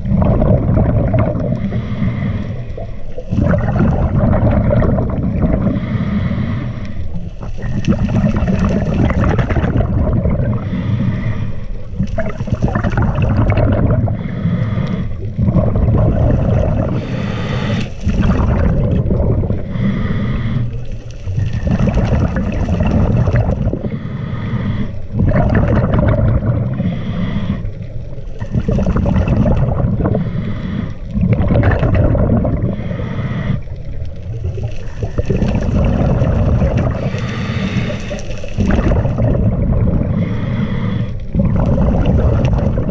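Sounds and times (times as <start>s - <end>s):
gurgling exhaled bubbles: 0.0s - 42.9s
underwater regulator breathing: 0.0s - 42.9s.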